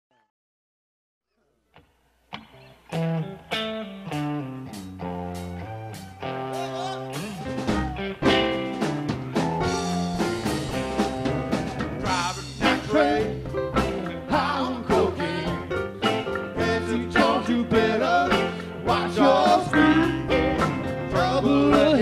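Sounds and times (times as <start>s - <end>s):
bass guitar: 1.8s - 22.0s
electric guitar notes: 1.8s - 22.0s
drums: 2.9s - 22.0s.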